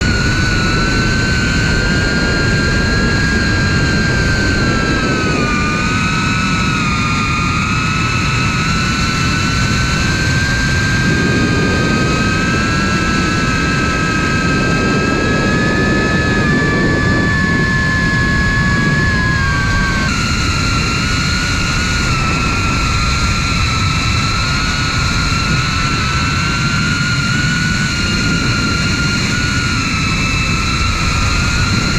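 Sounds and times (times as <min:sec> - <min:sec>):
drone motors whining: 0:00.0 - 0:31.9
steady noisy rush: 0:00.0 - 0:31.9.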